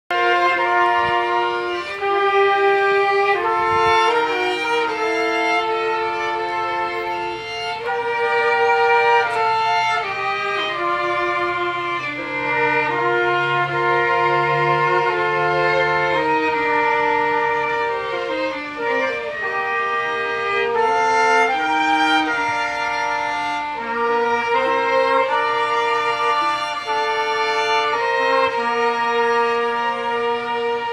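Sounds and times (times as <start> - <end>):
keyboard bass line: 0.1 - 30.9
trumpet: 0.1 - 30.9
violins playing slow melody: 0.1 - 30.9.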